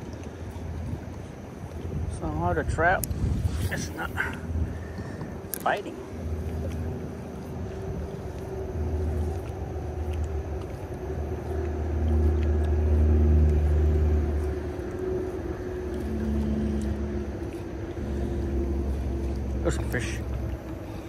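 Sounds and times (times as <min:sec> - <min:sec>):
faint hum: 0:00.0 - 0:21.0
low rumble: 0:00.0 - 0:21.0.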